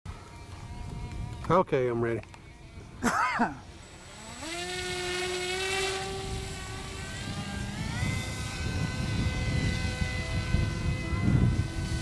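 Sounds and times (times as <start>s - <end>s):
electric motor and propeller whining: 0.1s - 12.0s.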